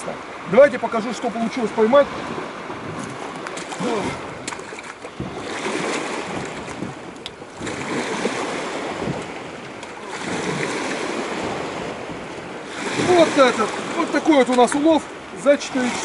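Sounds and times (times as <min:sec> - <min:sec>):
small waves lapping: 0:00.0 - 0:16.0
wind buffeting microphone: 0:00.0 - 0:16.0.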